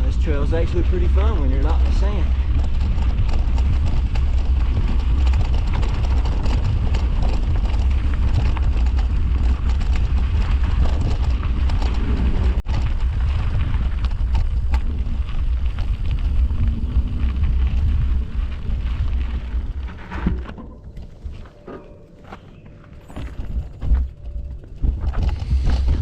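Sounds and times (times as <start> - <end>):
bike clicks and rattles: 0.0 - 26.0
bike tyres crunching on dirt: 0.0 - 26.0
low rumble: 0.0 - 26.0.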